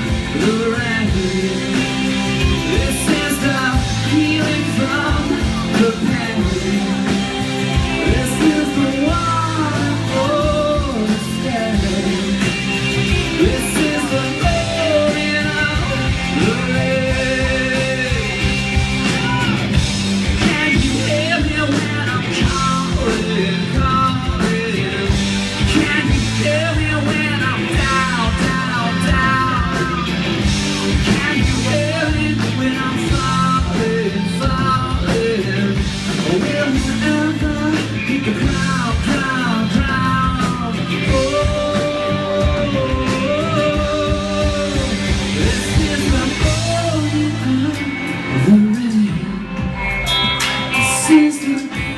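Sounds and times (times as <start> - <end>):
bass guitar: 0.0 - 51.9
drum kit: 0.0 - 51.9
electric guitars: 0.0 - 51.9
man singing lead: 0.0 - 51.9.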